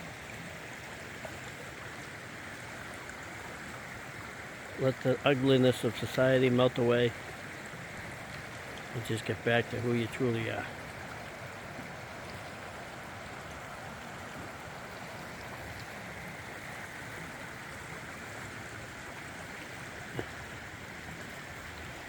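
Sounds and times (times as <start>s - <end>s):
flowing stream: 0.0s - 22.0s.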